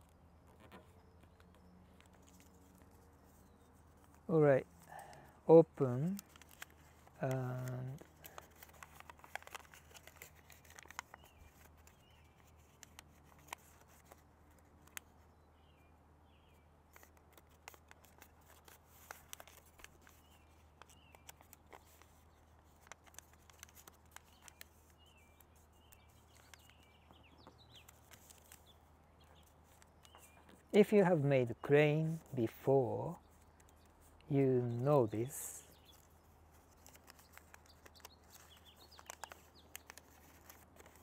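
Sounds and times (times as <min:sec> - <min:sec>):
paper crinkling and clicking: 0:00.0 - 0:04.3, 0:05.8 - 0:15.3, 0:16.9 - 0:30.8, 0:32.2 - 0:41.0.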